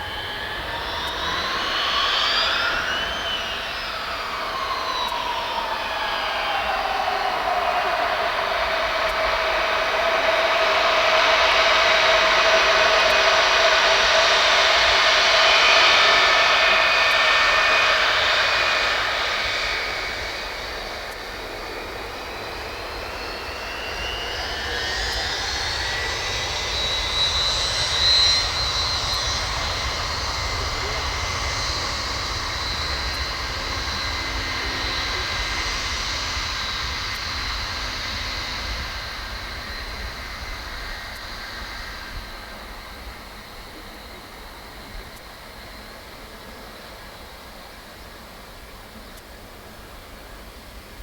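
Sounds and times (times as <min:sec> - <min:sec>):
jet engines whining: 0:00.0 - 0:51.0.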